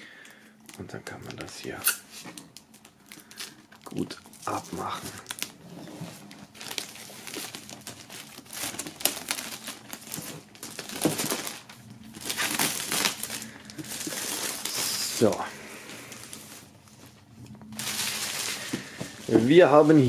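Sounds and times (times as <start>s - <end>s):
plastic film crinkling: 0.7s - 20.0s.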